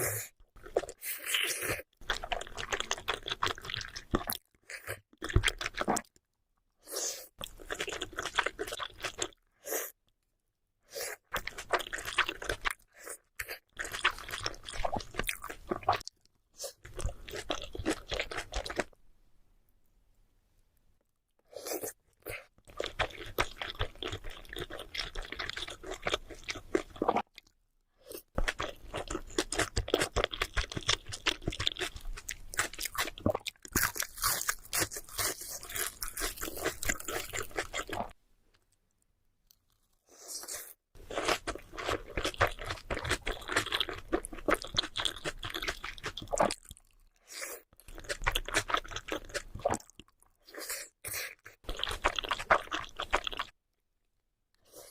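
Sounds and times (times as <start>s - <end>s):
chewing with crunches: 0.5s - 6.2s, 7.3s - 9.4s, 11.2s - 19.0s, 21.6s - 38.2s, 39.5s - 53.6s.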